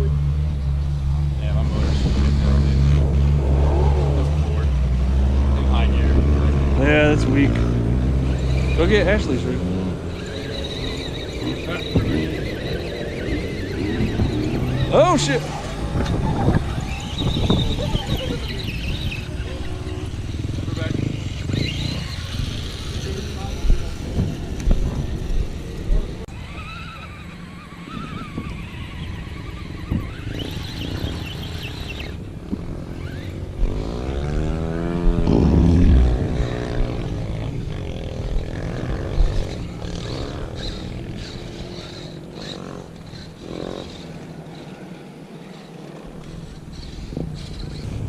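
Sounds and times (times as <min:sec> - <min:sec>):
electric motor and gears whining: 0:00.0 - 0:48.0
wind buffeting microphone: 0:00.0 - 0:48.0.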